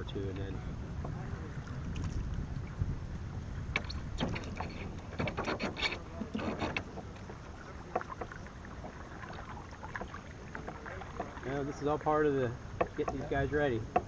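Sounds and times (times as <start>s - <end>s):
steady low rumble: 0.0s - 13.9s
water splashing around canoe: 0.6s - 14.0s.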